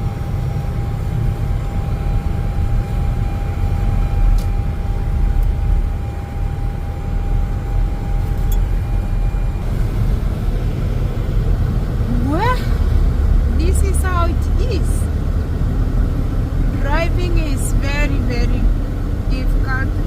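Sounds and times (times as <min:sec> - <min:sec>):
faint steady whine: 0:00.0 - 0:20.0
car cabin road rumble: 0:03.8 - 0:20.0.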